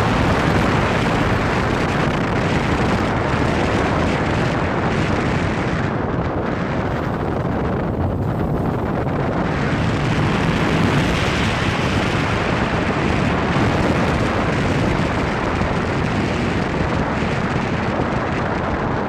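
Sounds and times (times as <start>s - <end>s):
vehicle tyres on unpaved road: 0.0s - 19.0s
wind buffeting microphone: 0.0s - 19.0s.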